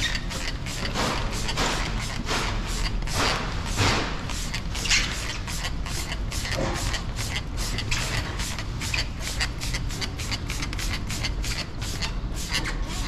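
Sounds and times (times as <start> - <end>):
spray bottle spritzing: 0.0 - 13.0.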